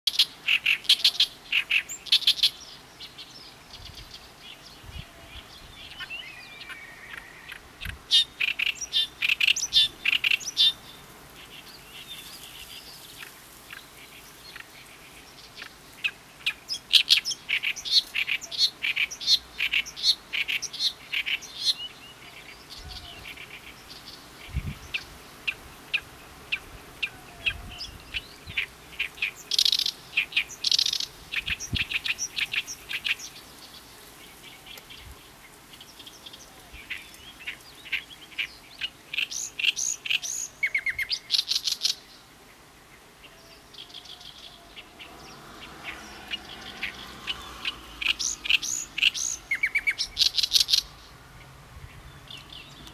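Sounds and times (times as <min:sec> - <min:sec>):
reed warbler singing: 0:00.0 - 0:52.9.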